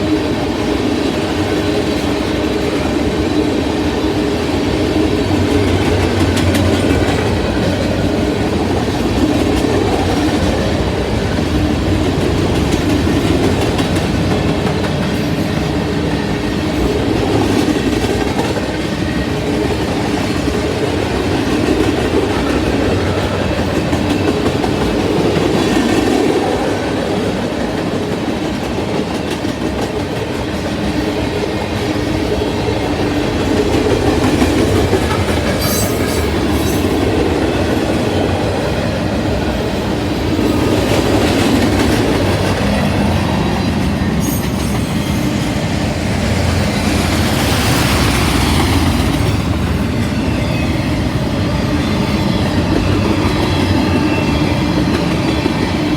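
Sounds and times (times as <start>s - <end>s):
freight train wheels rumbling and clacking: 0.0s - 55.9s.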